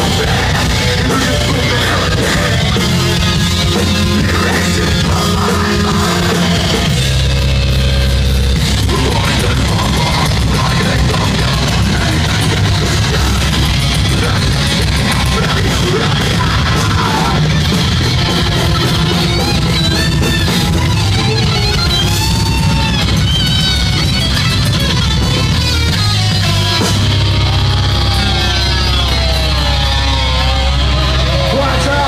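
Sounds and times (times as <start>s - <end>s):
high bending guitar lead: 0.0s - 32.0s
metal band playing: 0.0s - 32.0s.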